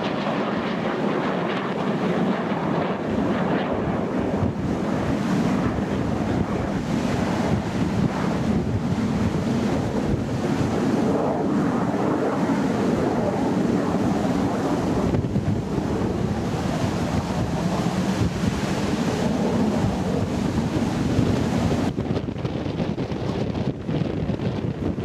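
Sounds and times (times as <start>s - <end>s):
distant jet roar: 0.0s - 25.0s
wind buffeting microphone: 0.0s - 25.0s.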